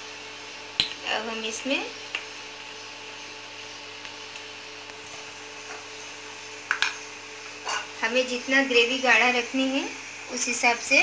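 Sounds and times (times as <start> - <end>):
kitchen background hum and hiss: 0.0 - 11.0.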